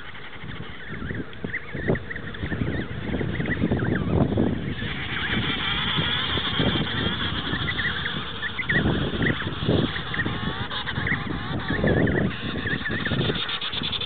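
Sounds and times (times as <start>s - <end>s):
penguin chicks whistling calls: 0.0s - 14.0s
penguin colony chorus: 0.0s - 14.0s.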